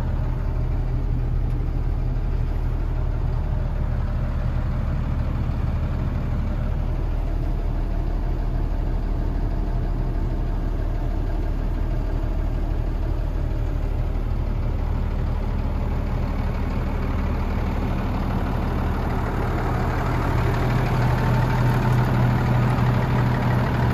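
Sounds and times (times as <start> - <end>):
diesel truck idling: 0.0 - 23.9.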